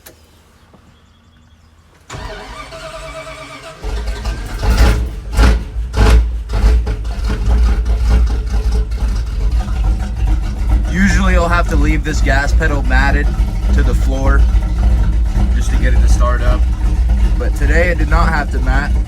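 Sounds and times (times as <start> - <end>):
starter cranking: 2.1 - 19.0
truck engine revving and running: 2.1 - 19.0.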